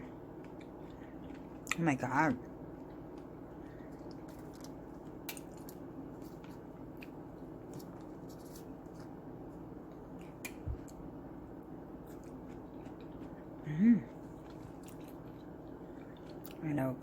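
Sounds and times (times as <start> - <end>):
steady low hum: 0.0 - 17.0
person chewing food: 0.1 - 1.8, 2.7 - 11.1, 12.0 - 16.6.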